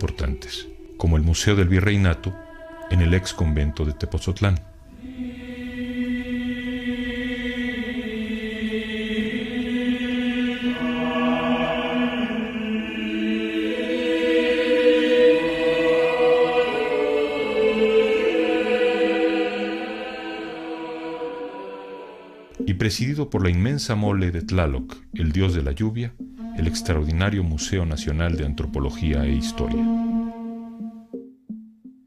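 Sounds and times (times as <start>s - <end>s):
choir chanting held notes: 0.0s - 23.2s, 26.4s - 30.8s.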